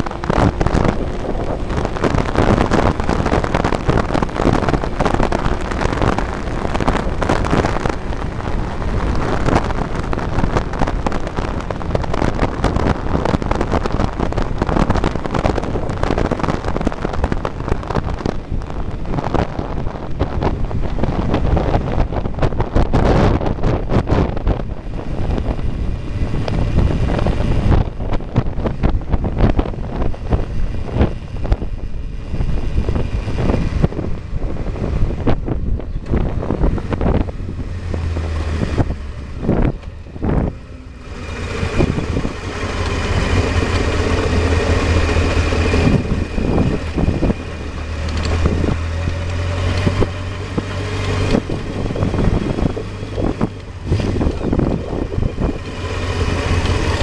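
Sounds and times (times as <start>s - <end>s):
motorcycle engine running: 0.0s - 57.0s
wind buffeting on microphone: 0.0s - 57.0s.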